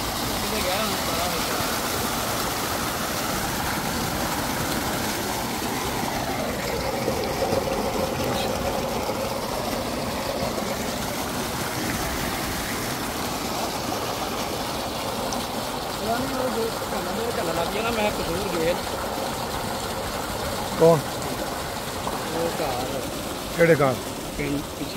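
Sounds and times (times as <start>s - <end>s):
water gushing from a pipe: 0.0s - 24.9s
water splashing into a tank: 0.0s - 24.9s.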